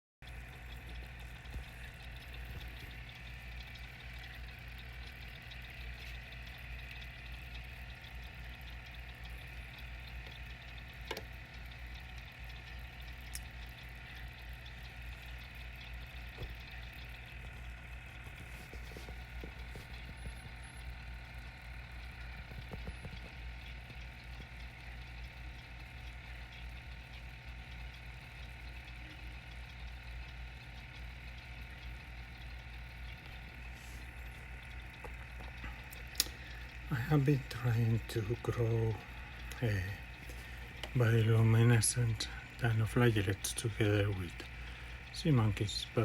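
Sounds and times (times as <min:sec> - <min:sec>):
faint water trickling: 0:00.2 - 0:46.0
low mechanical hum: 0:00.2 - 0:46.0.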